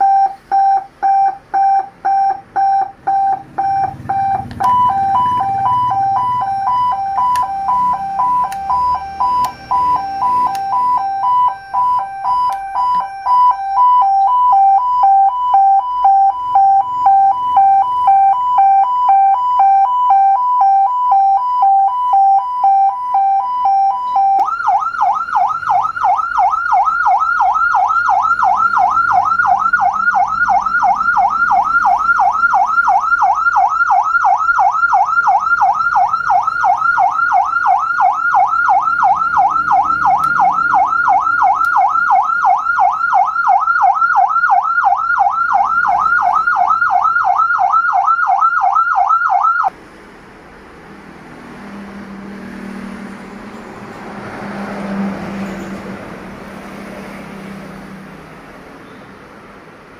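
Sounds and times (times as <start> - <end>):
electronic siren: 0.0 - 49.7.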